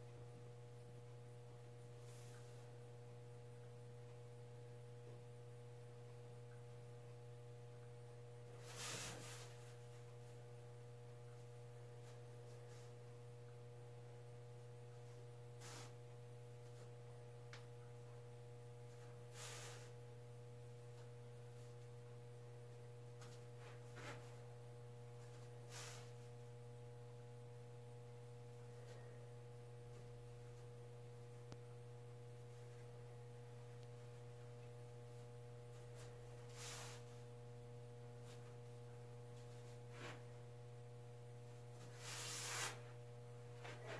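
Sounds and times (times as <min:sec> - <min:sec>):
low electrical hum: 0:00.0 - 0:43.9.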